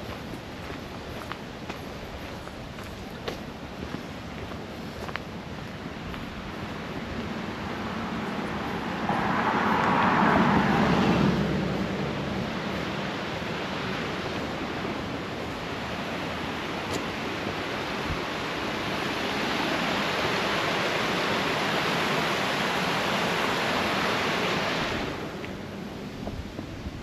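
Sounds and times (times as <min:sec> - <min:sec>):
rushing creek water: 0:00.0 - 0:27.0.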